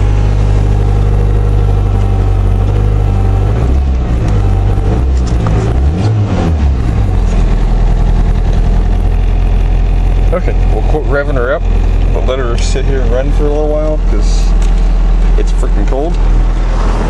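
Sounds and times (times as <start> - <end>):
pickup engine revving: 0.0 - 17.0.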